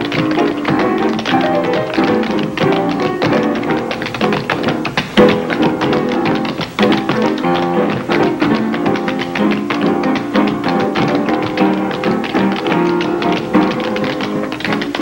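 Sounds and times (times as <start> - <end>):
piano accompaniment: 0.0 - 15.0
tap shoes on wooden floor: 0.0 - 15.0.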